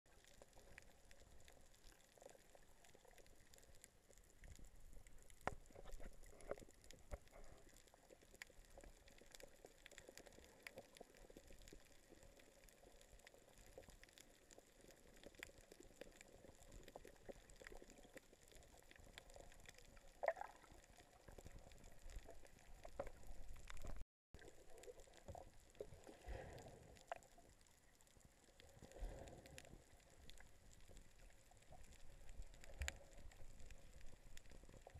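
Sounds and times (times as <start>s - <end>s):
water swishing and bubbling: 0.1s - 34.9s.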